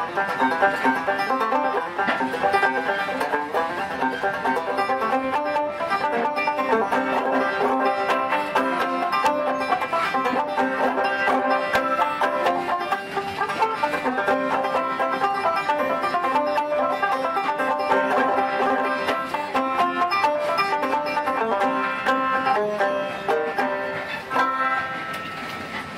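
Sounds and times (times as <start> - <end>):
banjo plucked notes: 0.0 - 25.9.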